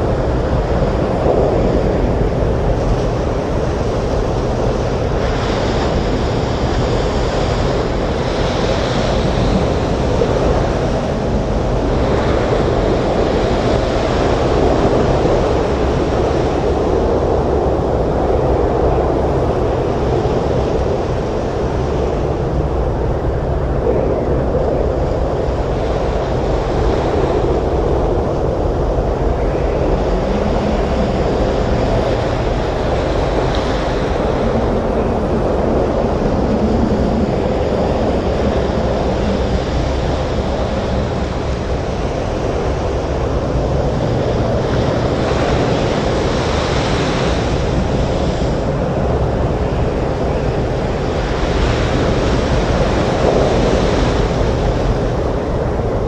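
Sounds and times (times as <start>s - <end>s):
hissing wash of waves: 0.0s - 56.0s
wind: 0.0s - 56.0s.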